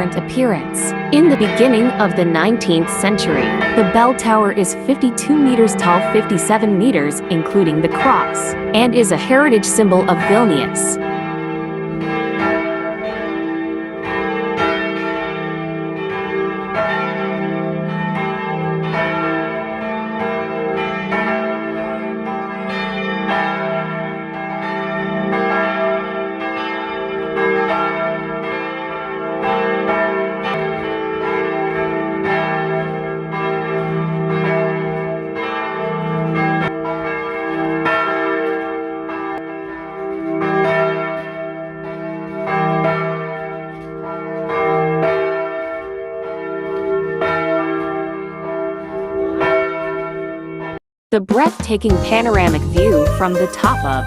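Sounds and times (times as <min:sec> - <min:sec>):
church bells pealing: 0:00.0 - 0:50.8, 0:51.9 - 0:54.0.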